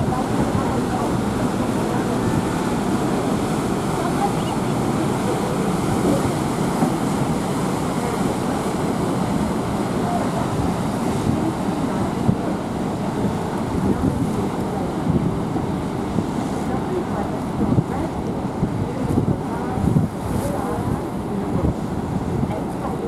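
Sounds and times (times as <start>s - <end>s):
rushing water: 0.0s - 23.0s
wind buffeting microphone: 0.0s - 23.0s.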